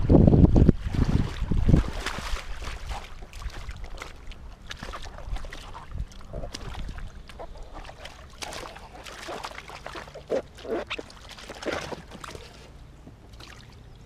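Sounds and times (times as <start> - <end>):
water splashing around boots: 0.6 - 13.8.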